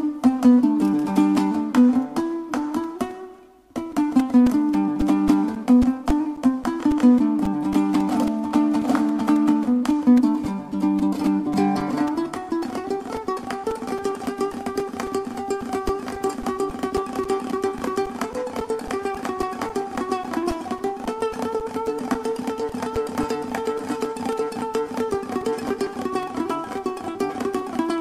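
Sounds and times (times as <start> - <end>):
lute fast strumming: 0.0 - 28.0.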